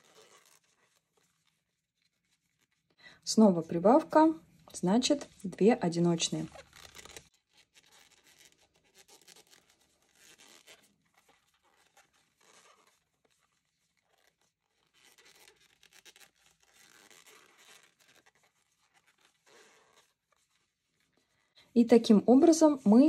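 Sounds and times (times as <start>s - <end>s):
crochet hook rustling yarn: 0.0s - 23.0s.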